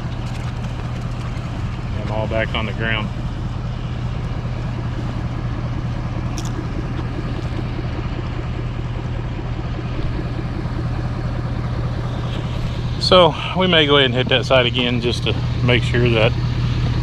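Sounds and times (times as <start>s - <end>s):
pressure washer engine humming: 0.0s - 17.0s.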